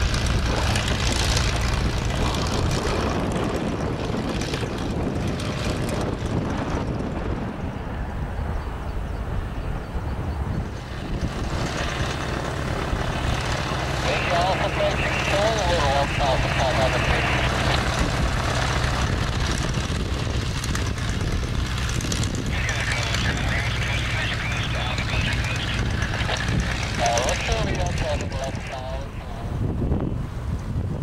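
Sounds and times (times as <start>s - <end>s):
biplane engine and propeller running: 0.0s - 31.0s.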